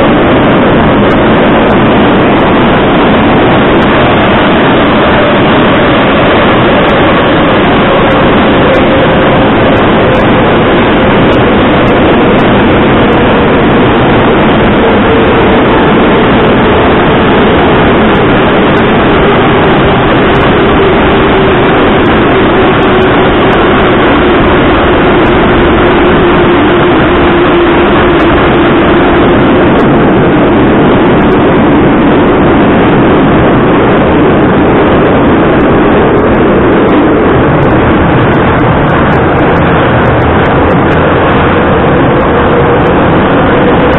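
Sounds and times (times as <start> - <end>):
faint motor whine: 0.0 - 43.9.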